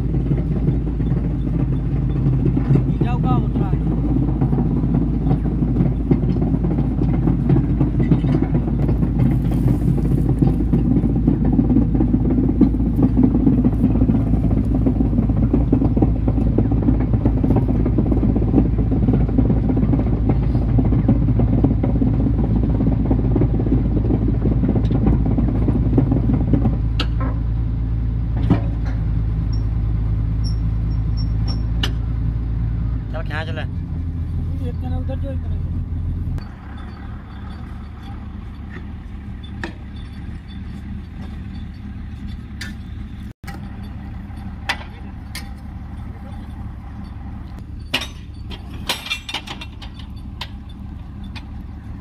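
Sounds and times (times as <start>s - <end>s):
dense rattle of drill rod: 0.0s - 27.6s, 36.4s - 52.0s
drilling rig engine drone: 0.0s - 52.0s.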